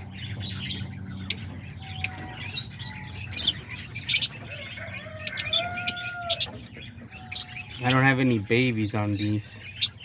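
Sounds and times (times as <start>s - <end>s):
lovebirds chirping: 0.0s - 10.0s.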